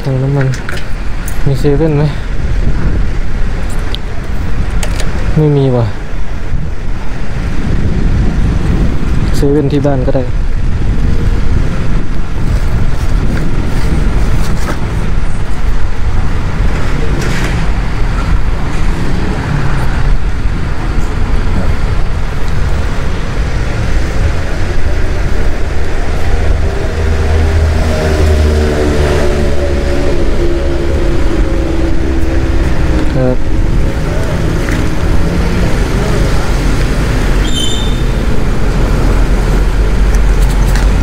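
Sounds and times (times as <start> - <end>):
road and traffic noise: 0.0 - 41.0.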